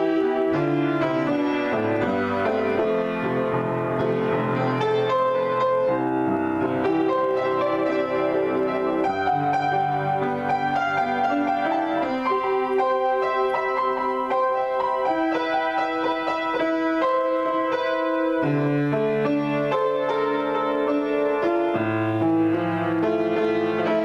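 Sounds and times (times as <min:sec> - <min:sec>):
solo piano improvisation: 0:00.0 - 0:24.0.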